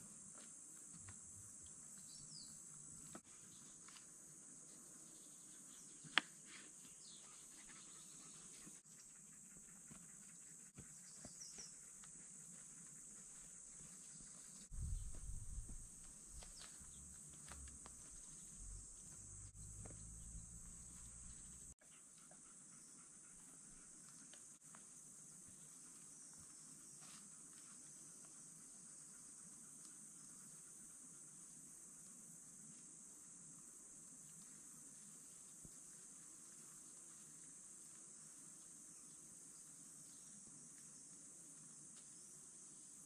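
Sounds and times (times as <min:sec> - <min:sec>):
insect hum: 0:00.0 - 0:43.0.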